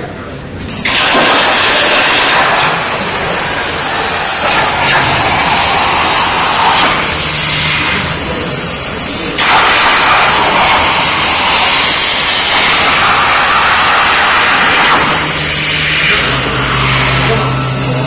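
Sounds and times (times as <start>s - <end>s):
machine hum: 0.0s - 18.0s
cutting machine hissing: 0.8s - 18.0s.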